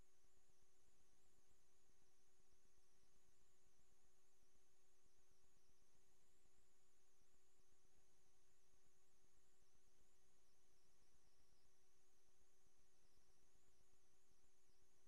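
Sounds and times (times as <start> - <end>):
faint electronic hum and hiss: 0.0 - 15.0.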